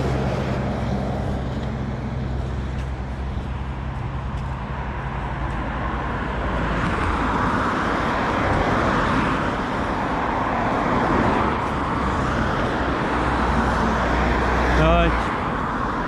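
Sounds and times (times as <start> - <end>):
car passing: 0.0 - 16.0.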